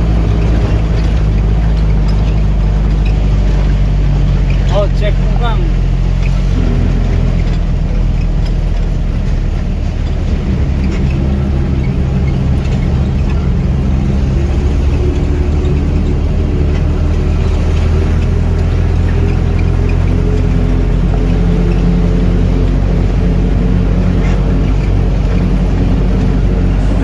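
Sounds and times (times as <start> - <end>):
bus engine drone: 0.0 - 27.0
higher engine note: 0.0 - 27.0.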